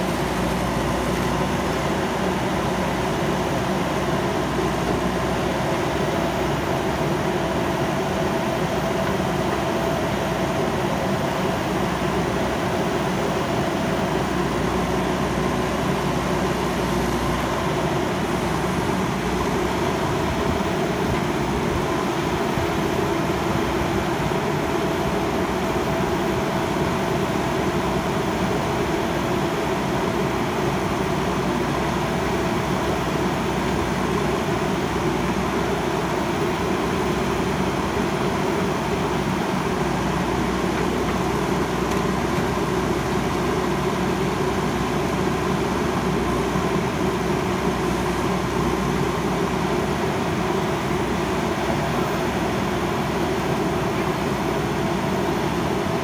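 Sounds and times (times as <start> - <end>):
backhoe arm working: 0.0 - 56.0
diesel engine running: 0.0 - 56.0.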